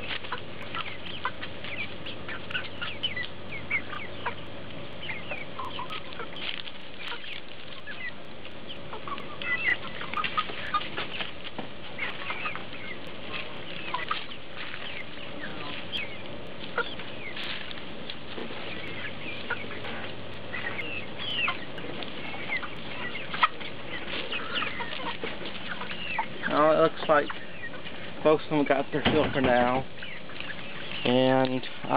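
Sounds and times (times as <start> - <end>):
hens clucking: 0.0 - 31.9.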